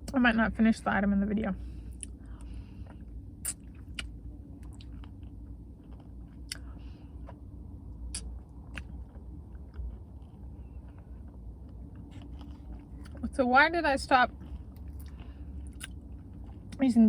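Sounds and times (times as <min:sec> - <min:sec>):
steady low hum: 0:00.0 - 0:17.0
person chewing: 0:01.9 - 0:13.2, 0:14.3 - 0:16.8.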